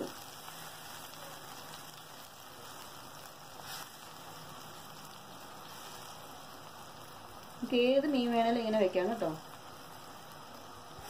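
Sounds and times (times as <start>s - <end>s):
curry bubbling in a pan: 0.0s - 11.0s.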